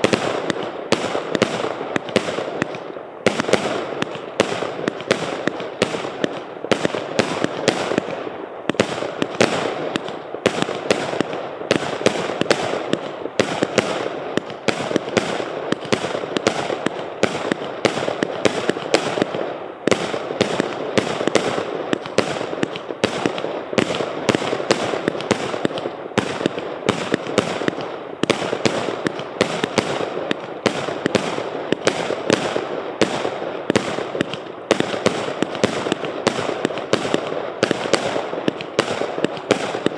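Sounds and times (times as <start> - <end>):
fireworks cake firing: 0.0 - 39.9.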